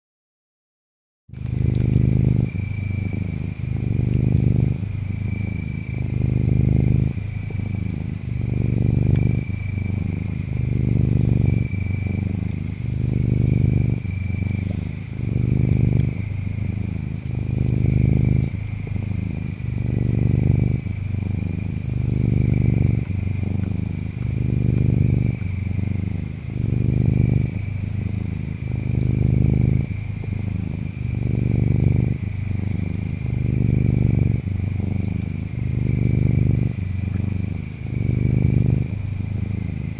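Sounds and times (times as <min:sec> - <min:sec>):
cat purring: 0:01.3 - 0:39.9
insect trill: 0:01.4 - 0:39.9.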